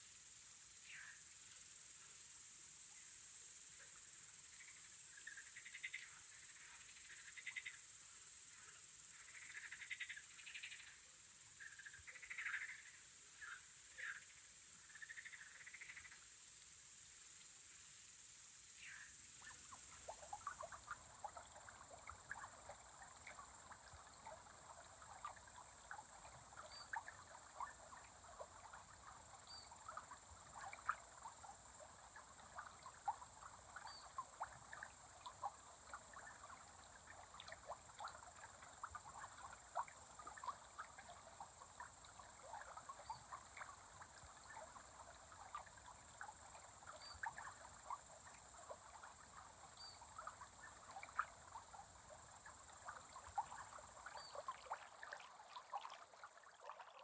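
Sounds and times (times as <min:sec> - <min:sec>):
crickets trilling: 0:00.0 - 0:16.6, 0:17.4 - 0:57.0.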